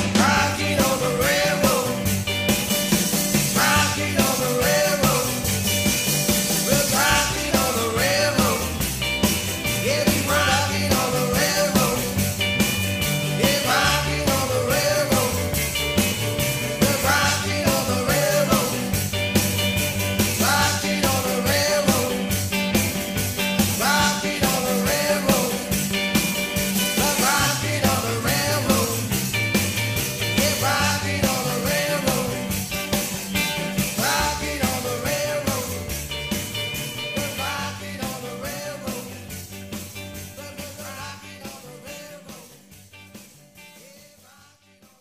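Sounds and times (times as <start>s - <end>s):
rock and roll song with singer: 0.0s - 45.0s.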